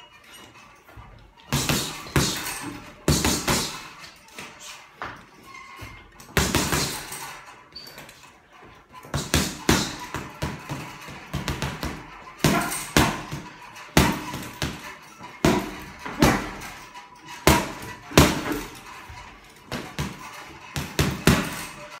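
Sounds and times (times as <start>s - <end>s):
gloves punching heavy bag: 1.0s - 5.2s, 5.8s - 7.8s, 9.0s - 16.8s, 17.4s - 22.0s.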